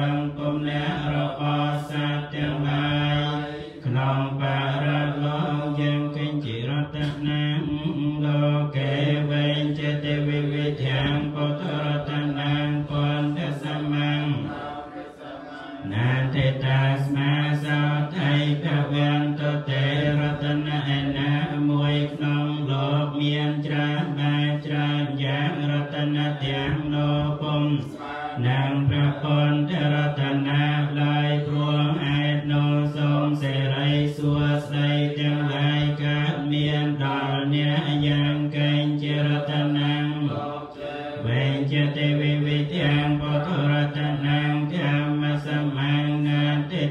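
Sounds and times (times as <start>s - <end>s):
monks chanting in monotone: 0.0s - 46.9s.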